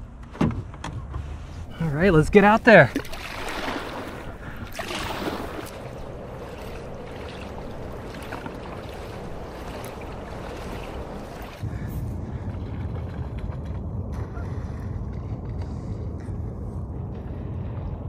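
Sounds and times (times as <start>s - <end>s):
wind rumble on microphone: 0.0s - 18.0s
water splashing along hull: 0.6s - 18.0s
kayak paddle strokes: 1.0s - 15.9s.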